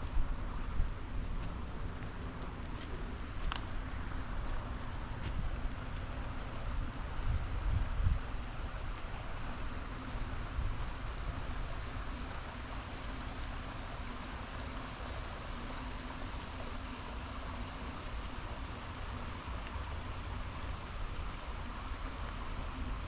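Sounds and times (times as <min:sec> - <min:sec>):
rain falling on water: 0:00.0 - 0:23.0
river rushing: 0:00.0 - 0:23.0.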